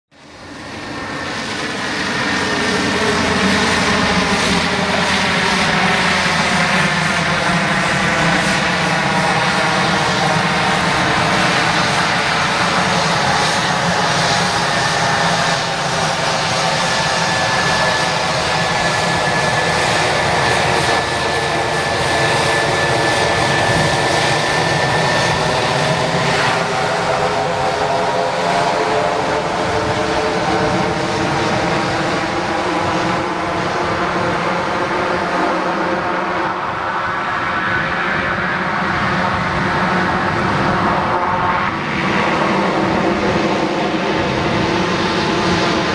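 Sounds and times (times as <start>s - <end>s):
propeller drone: 0.1s - 45.9s
turbine whine: 0.2s - 45.9s.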